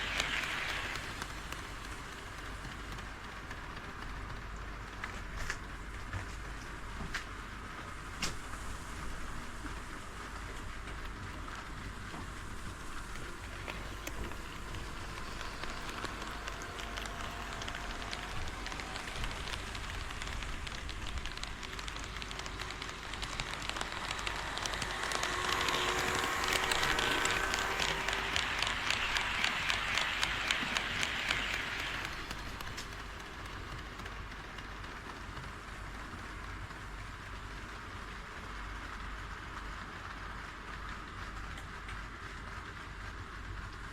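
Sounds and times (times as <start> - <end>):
model train rolling on track: 0.0 - 43.9
wheels clicking over rail joints: 0.0 - 43.9.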